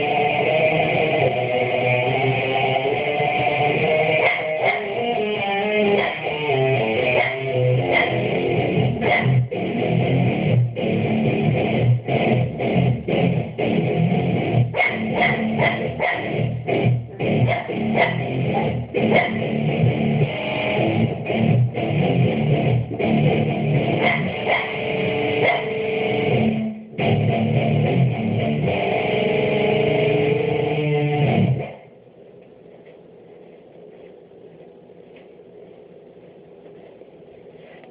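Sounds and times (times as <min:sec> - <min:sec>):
rock music with electric guitar: 0:00.0 - 0:31.9.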